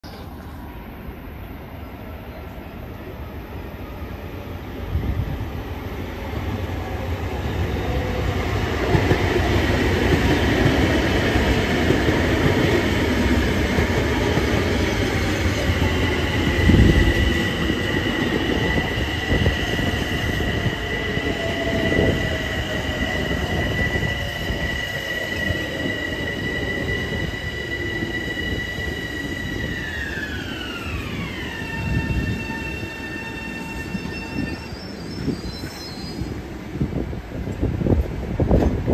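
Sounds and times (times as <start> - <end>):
train wheels rumbling on rails: 4.4 - 38.9.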